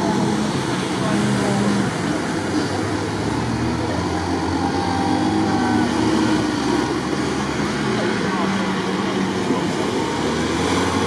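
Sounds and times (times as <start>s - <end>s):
mud and water splashing: 0.0s - 11.0s
off-road engines revving: 0.0s - 11.0s.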